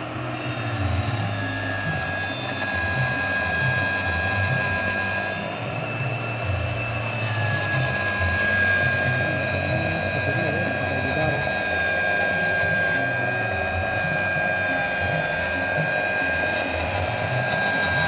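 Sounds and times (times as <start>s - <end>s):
electric saw cutting with whine: 0.0s - 18.0s.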